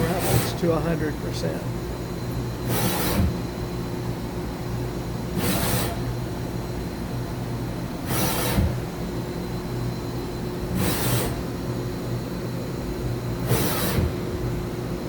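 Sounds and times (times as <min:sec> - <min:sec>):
machine drive humming: 0:00.0 - 0:15.0.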